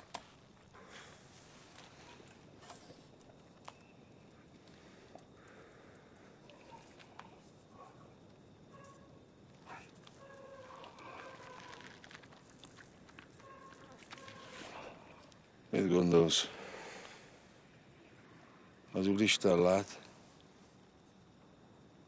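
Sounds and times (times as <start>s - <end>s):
faint chirping calls: 0.0s - 22.0s.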